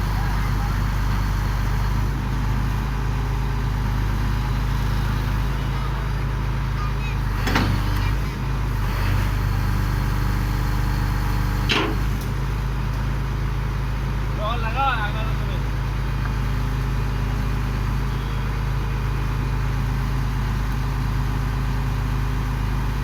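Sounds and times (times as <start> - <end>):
drilling rig engine droning: 0.0 - 23.0.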